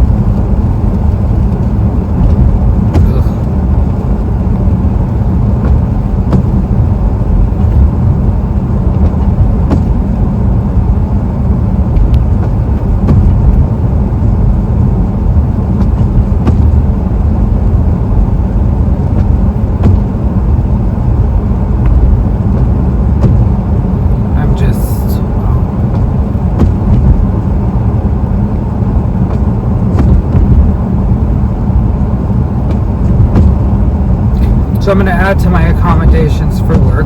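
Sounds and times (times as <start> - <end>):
car cabin road and engine rumble: 0.0 - 37.0.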